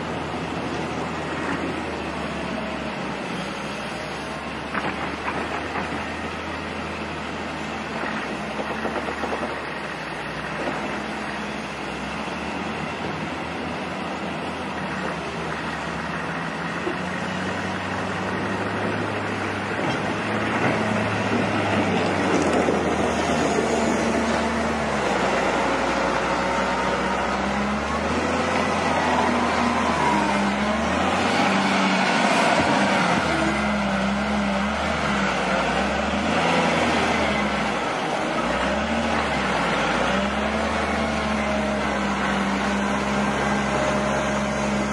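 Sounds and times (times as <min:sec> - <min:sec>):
diesel engines revving: 0:00.0 - 0:44.9.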